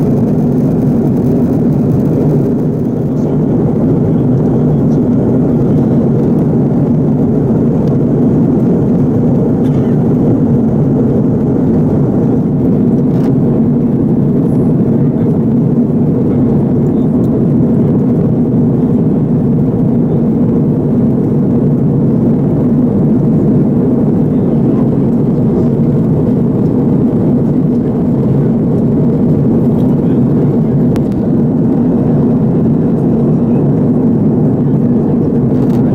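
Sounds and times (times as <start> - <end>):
airliner cabin engine noise: 0.0 - 35.9.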